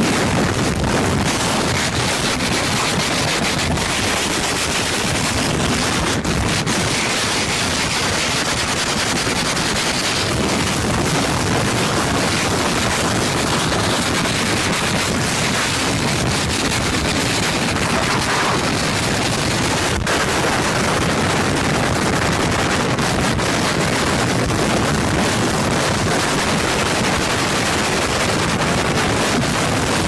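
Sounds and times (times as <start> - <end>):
loud rushing noise with crackle: 0.0 - 30.0.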